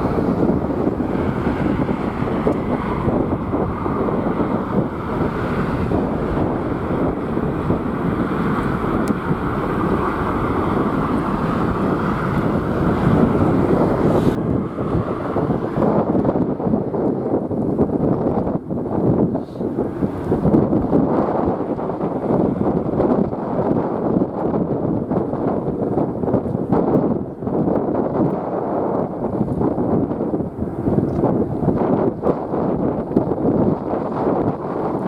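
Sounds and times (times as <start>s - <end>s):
strong wind buffeting microphone: 0.0s - 35.0s.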